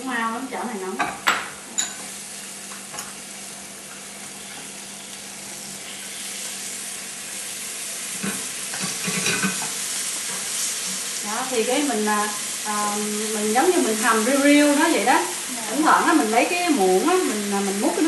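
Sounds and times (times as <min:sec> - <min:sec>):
sauce sizzling: 0:00.2 - 0:18.0.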